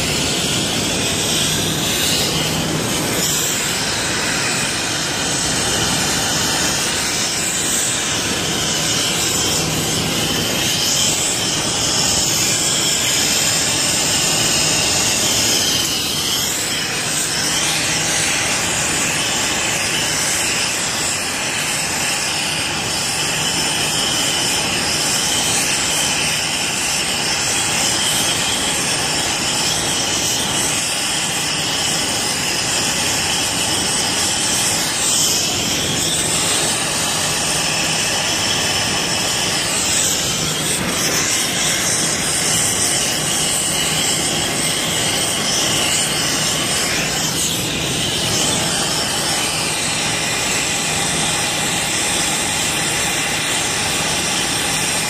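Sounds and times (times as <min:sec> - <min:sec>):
loud steady rushing noise: 0:00.0 - 0:55.0.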